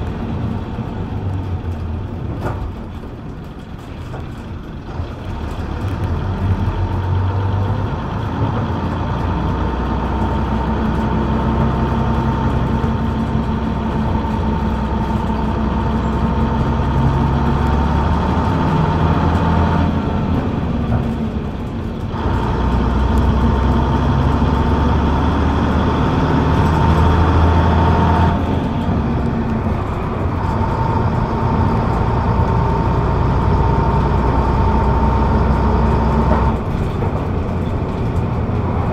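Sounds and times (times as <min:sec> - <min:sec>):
bus diesel engine whining: 0:00.0 - 0:38.9.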